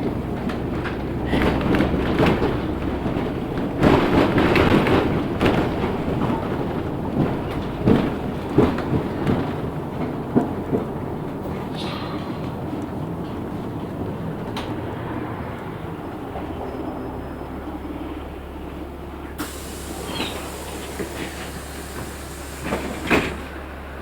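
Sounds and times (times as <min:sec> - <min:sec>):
bus cabin rumble: 0:00.0 - 0:24.0.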